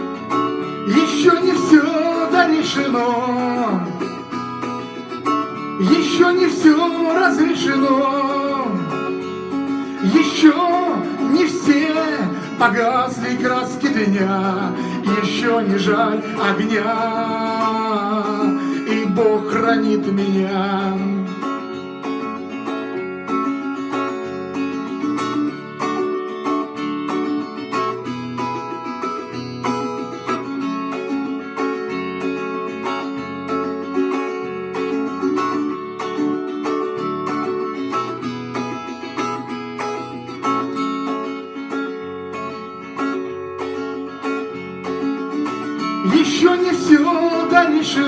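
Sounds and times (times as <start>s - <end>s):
guitar strummed and picked: 0.0s - 48.0s.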